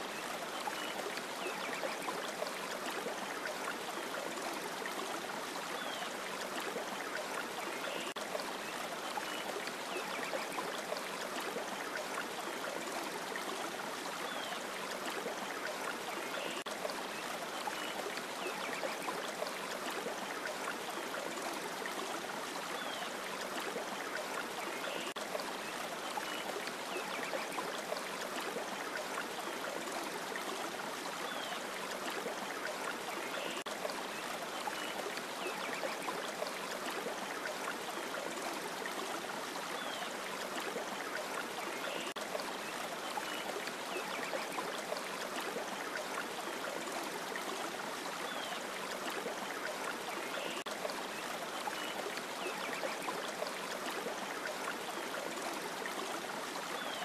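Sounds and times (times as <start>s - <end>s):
creek water over stones: 0.0s - 57.0s.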